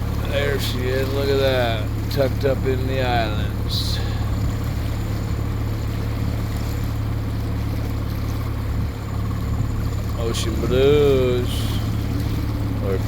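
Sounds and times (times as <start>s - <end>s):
outboard motor running: 0.0s - 13.0s
water noise: 0.0s - 13.0s.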